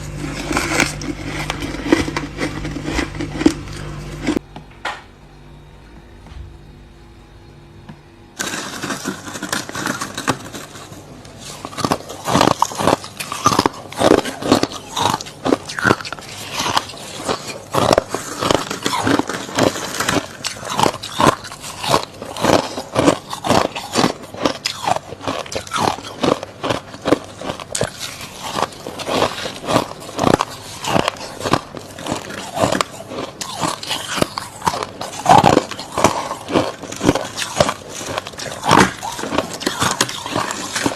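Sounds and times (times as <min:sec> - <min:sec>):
chewing crunchy frost: 0:00.0 - 0:04.4, 0:08.4 - 0:40.9.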